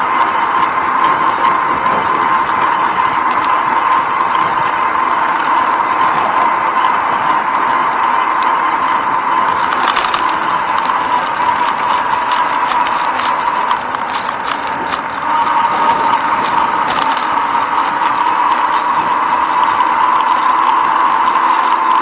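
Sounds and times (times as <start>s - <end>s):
bike clicks and rattles: 0.0s - 22.0s
constant hum: 0.0s - 22.0s
tyre and wind noise: 0.0s - 22.0s.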